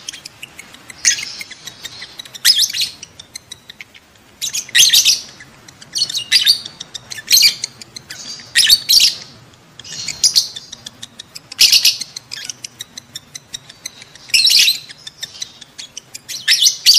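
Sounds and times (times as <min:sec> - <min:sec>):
lovebirds shrill chattering: 0:00.0 - 0:16.9.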